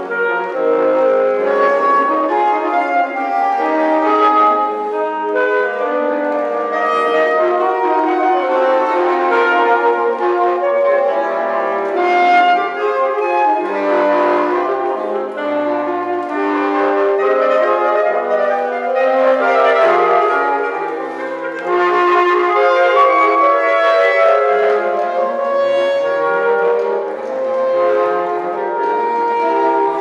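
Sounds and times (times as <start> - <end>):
saxophone quartet playing: 0.0 - 30.0.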